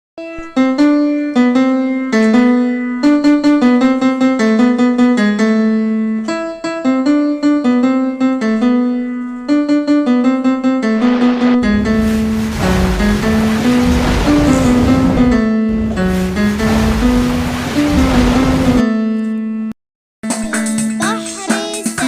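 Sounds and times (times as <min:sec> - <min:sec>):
children's song on piano: 0:00.2 - 0:19.0, 0:20.3 - 0:22.0.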